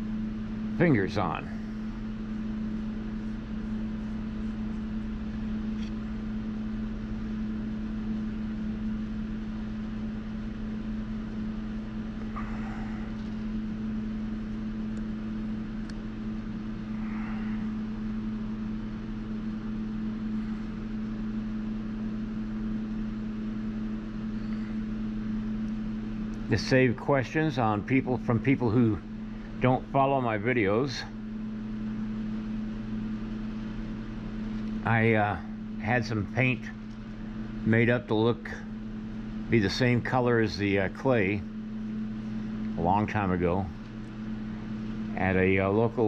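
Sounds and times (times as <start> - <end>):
low machine hum: 0.0 - 46.0.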